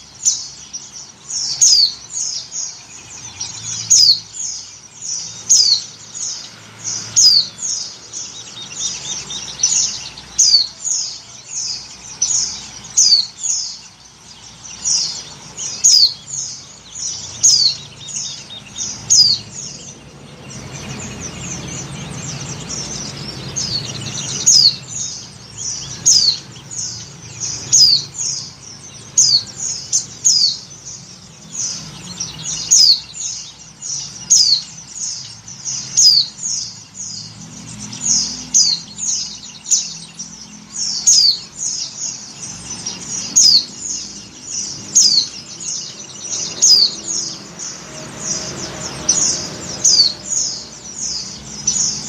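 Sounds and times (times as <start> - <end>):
bird chirping and trilling: 0.0 - 52.0.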